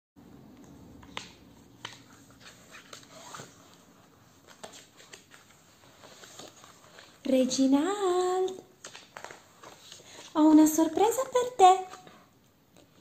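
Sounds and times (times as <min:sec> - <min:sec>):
faint rustling: 0:00.6 - 0:13.0.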